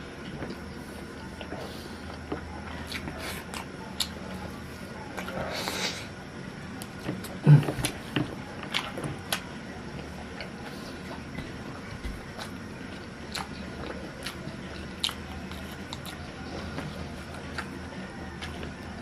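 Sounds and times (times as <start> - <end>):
chewing chicken: 0.2 - 19.0.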